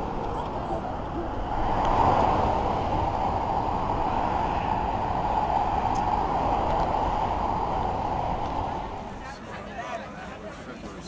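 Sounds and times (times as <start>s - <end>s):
highway traffic rushing: 0.0s - 11.0s.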